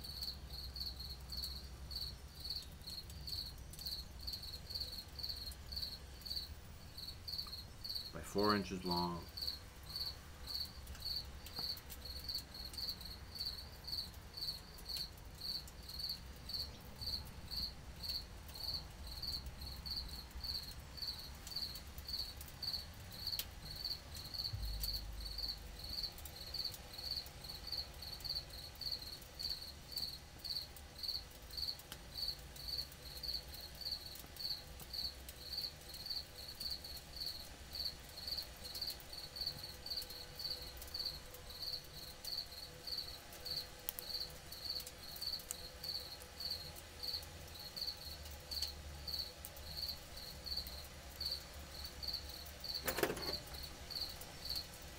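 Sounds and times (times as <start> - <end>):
cricket chirping: 0.0 - 54.9.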